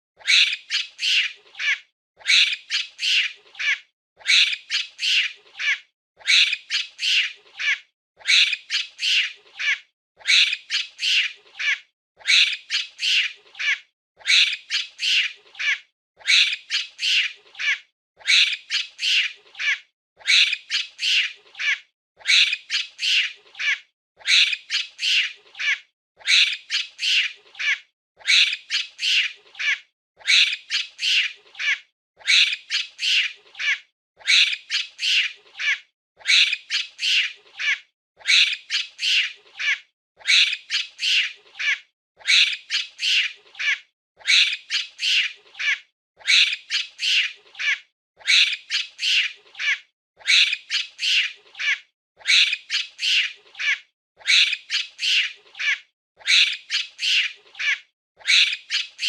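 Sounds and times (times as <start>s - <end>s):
monkey high-pitched calls: 0.2s - 59.0s.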